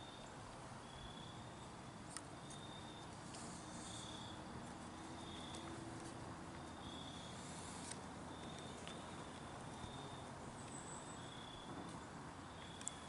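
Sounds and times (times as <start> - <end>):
quiet hiss: 0.0 - 13.0.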